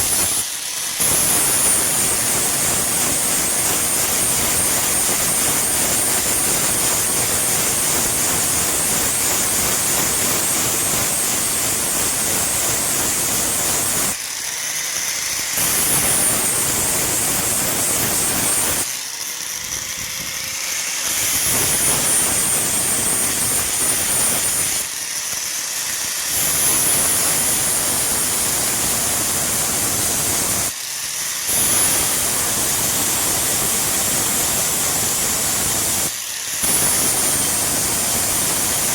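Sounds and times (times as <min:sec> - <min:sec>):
grinder grinding steel: 0:00.0 - 0:38.9
grinder motor whine: 0:00.0 - 0:38.9.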